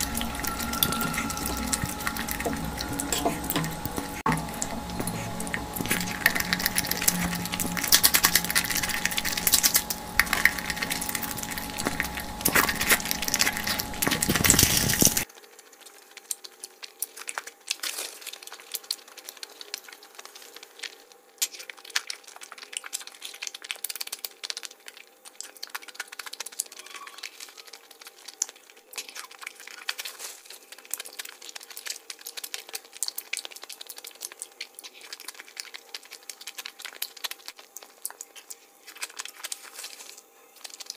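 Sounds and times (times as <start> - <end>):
chewing and crunching: 0.0 - 40.9.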